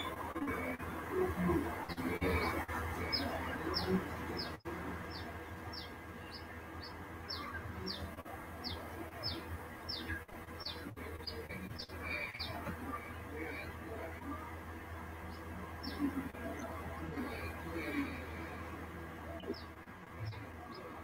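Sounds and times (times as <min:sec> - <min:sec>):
bird chirping: 0:00.0 - 0:14.4, 0:15.2 - 0:18.4, 0:19.3 - 0:21.0
low steady hum: 0:00.0 - 0:21.0.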